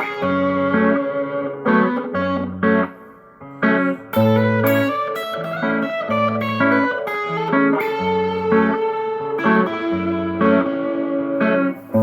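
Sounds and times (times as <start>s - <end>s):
guitar picking single notes: 0.0s - 12.0s.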